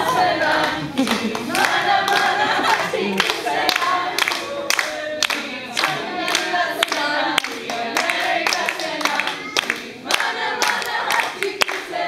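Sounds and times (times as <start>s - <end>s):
group clapping in rhythm: 0.0s - 12.0s
people singing and calling: 0.0s - 12.0s.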